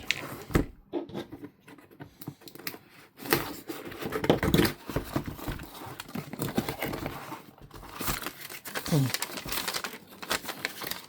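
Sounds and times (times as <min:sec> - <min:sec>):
packaging rustling and crinkling: 0:01.6 - 0:11.0.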